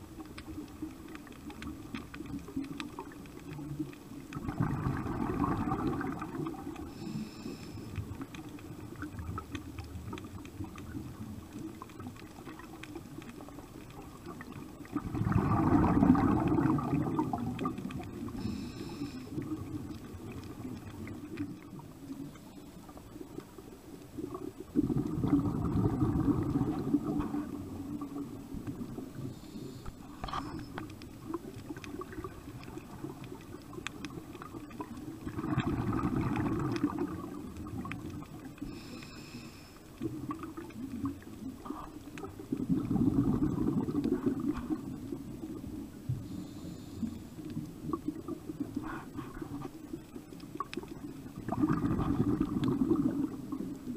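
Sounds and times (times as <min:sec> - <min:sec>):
regulator bubbles gurgling underwater: 0:00.0 - 0:53.9.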